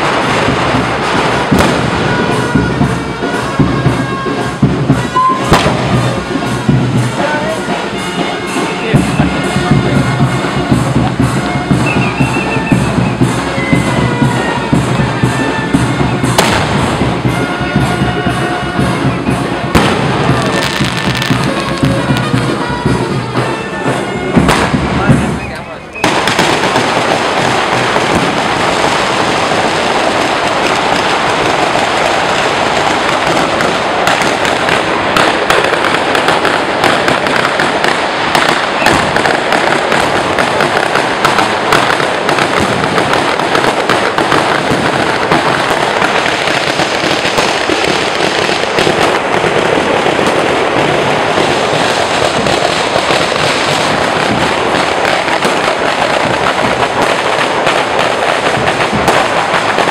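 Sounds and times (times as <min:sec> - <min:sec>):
firecrackers crackling: 0:00.0 - 0:59.9.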